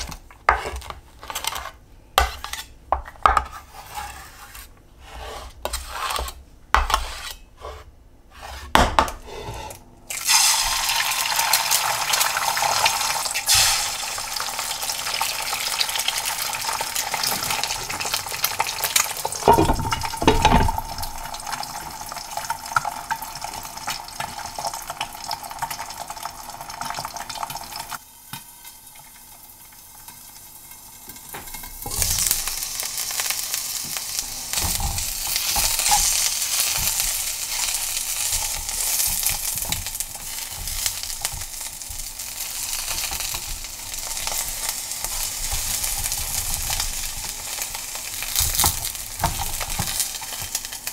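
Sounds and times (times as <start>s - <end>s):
eggs sizzling in frying pan: 0.0s - 4.5s, 8.7s - 50.9s.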